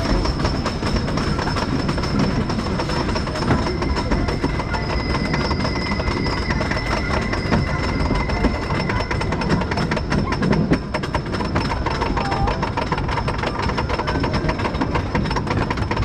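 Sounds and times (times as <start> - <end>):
rapid clicking: 0.0 - 16.0
roller coaster wheels rumbling: 0.0 - 16.0.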